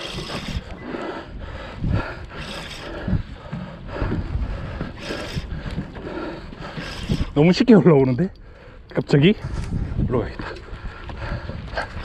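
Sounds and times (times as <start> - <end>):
boat noise at sea: 0.0 - 12.0
wind buffeting microphone: 0.0 - 12.0.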